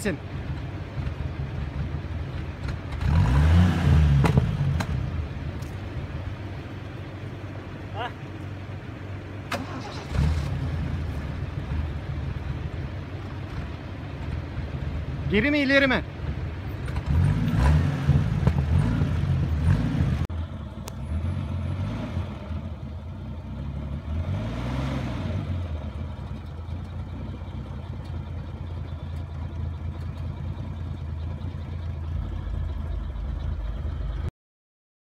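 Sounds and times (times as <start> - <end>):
off-road vehicle engine under load: 0.0 - 34.3.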